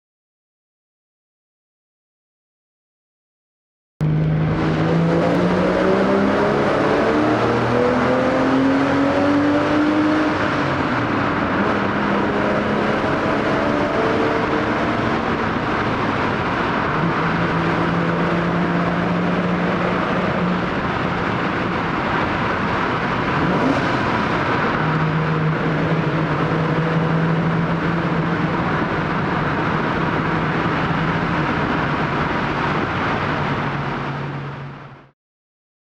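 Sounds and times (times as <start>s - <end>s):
car engine echoing in tunnel: 4.0s - 35.1s
road and wind noise: 4.0s - 35.2s.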